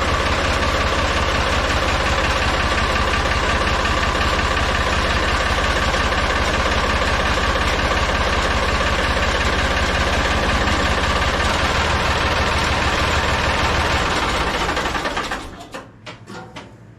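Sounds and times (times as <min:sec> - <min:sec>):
tractor engine idling: 0:00.0 - 0:15.8.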